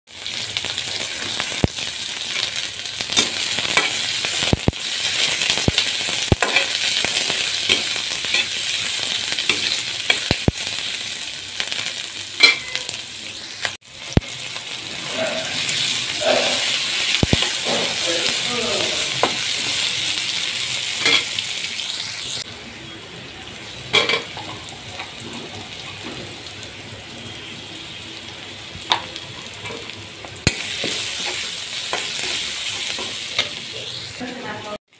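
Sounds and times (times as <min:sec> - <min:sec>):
onions sizzling in oil: 0:00.1 - 0:34.9.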